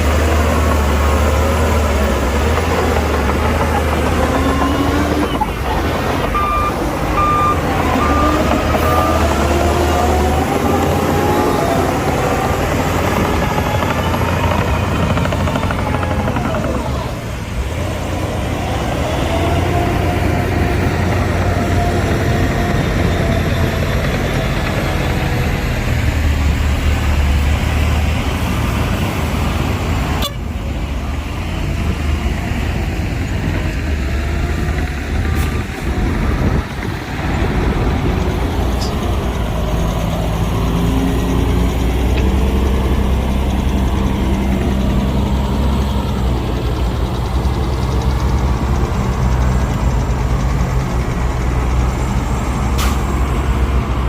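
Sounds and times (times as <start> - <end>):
heavy diesel machinery rumbling: 0.0 - 54.0.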